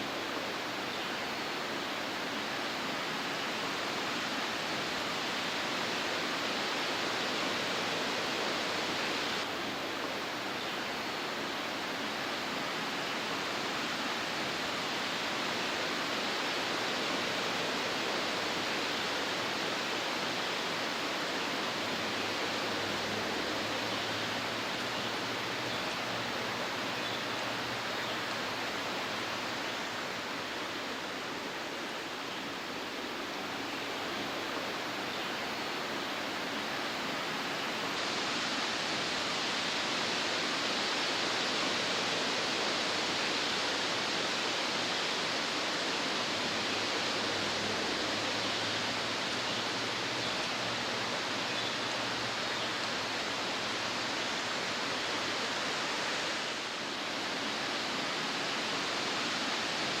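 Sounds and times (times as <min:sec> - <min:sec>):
waterfall rushing: 0:00.0 - 1:00.0.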